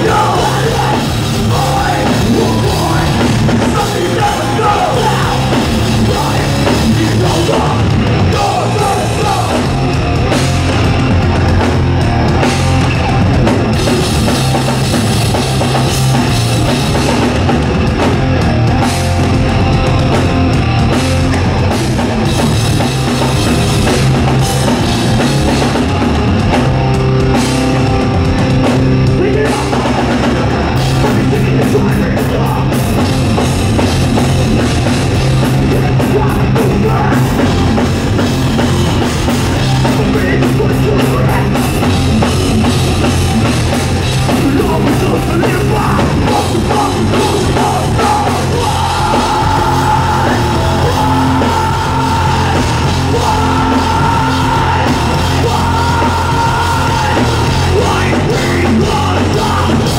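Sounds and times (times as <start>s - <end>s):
hardcore punk band playing live: 0.0s - 59.9s.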